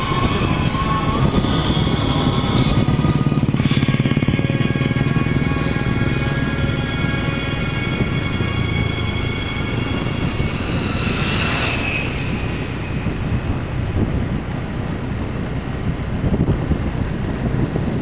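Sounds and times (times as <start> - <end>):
music with sustained tones: 0.0 - 18.0
road noise: 0.0 - 18.0
rushing swell of noise: 0.0 - 18.0
vehicle engine rumble: 0.0 - 18.0.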